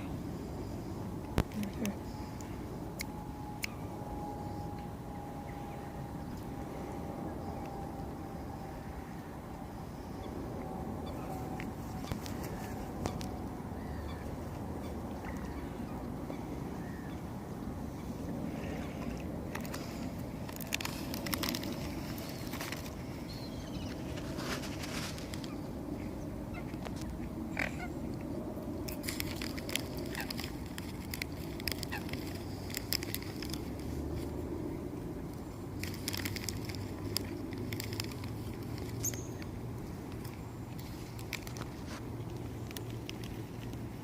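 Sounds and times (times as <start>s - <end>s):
steady low background noise: 0.0s - 44.0s.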